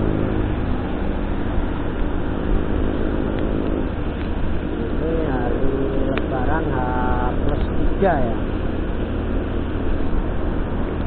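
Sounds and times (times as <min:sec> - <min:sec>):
vehicle road noise: 0:00.0 - 0:11.0.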